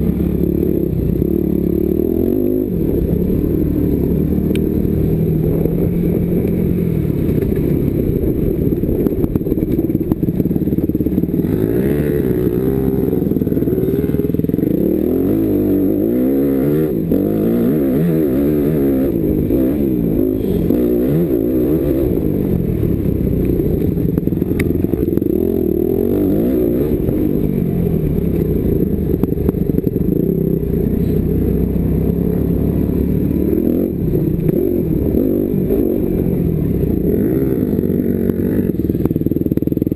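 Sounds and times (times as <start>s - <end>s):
motocross bike engine revving: 0.0s - 8.0s, 9.7s - 39.9s.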